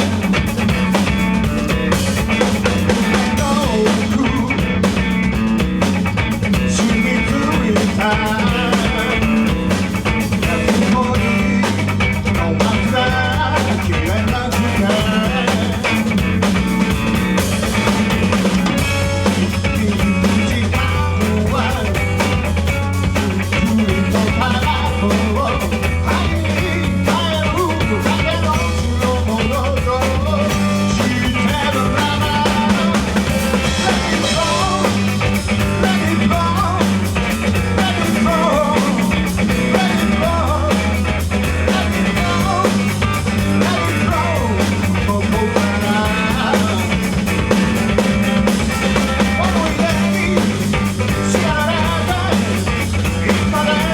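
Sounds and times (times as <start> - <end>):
bass line: 0.0 - 53.9
drum kit beat: 0.0 - 53.9
electric guitar: 0.0 - 53.9.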